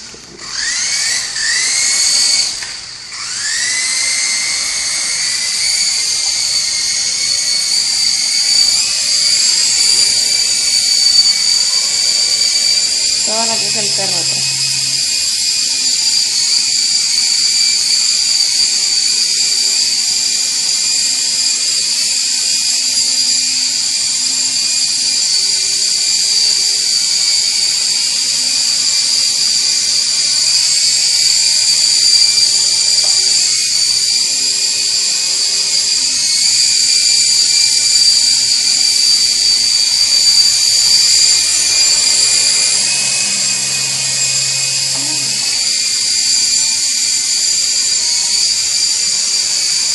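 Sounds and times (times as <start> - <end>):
toy helicopter motors whining: 0.0 - 49.9.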